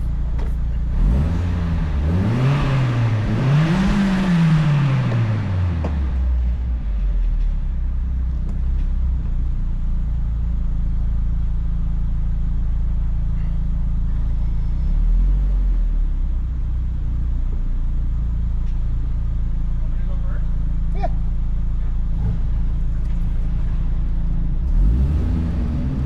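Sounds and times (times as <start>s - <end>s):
car exhaust drone: 0.0s - 26.0s.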